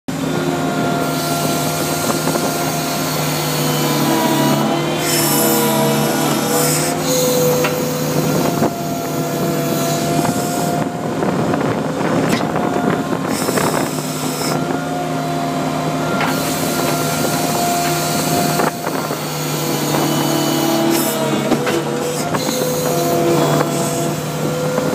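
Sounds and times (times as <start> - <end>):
loader engine running: 0.1 - 24.9.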